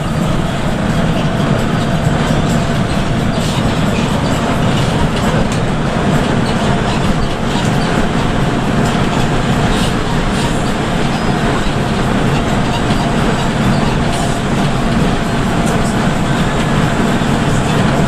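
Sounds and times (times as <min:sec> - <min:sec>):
bus engine and road noise drone: 0:00.0 - 0:18.0.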